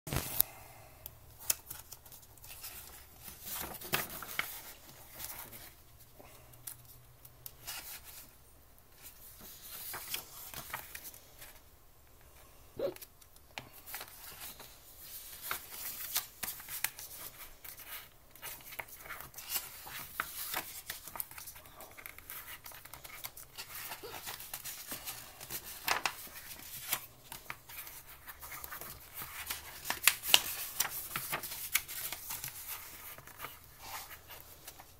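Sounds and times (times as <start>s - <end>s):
paper pages rustling: 0.1s - 0.4s, 1.4s - 6.0s, 6.6s - 11.6s, 13.6s - 34.9s.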